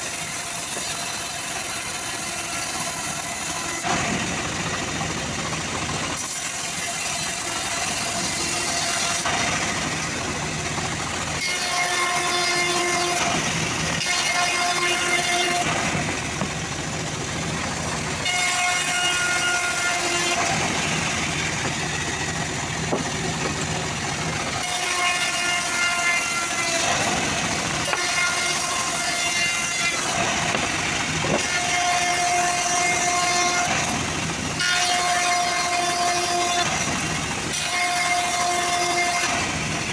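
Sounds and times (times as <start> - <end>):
band saw mill drone: 0.0 - 39.9
saw blade cutting wood: 0.0 - 39.9
whining machine tone: 0.0 - 39.9.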